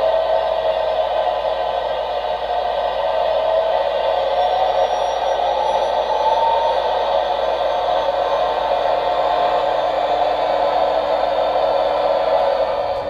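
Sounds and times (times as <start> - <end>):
gas turbine whine: 0.0 - 13.0.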